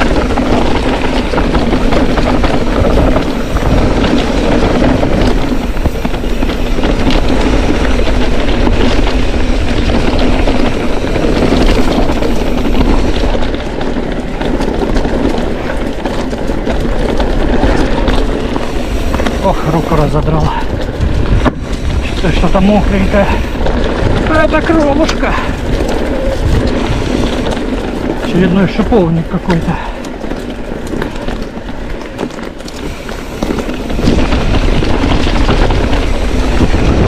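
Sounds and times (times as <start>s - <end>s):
bike rattles and clicks: 0.0s - 37.0s
tyre noise on dirt: 0.0s - 37.0s
wind rush on microphone: 0.0s - 37.0s.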